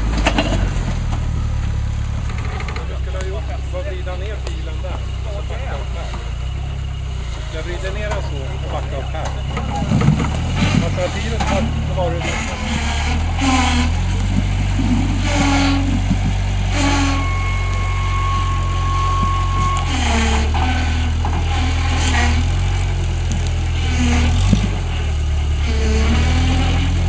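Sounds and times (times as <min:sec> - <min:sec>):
buggy engine running at low revs: 0:00.0 - 0:27.0
short bursts of engine noise: 0:00.0 - 0:27.0.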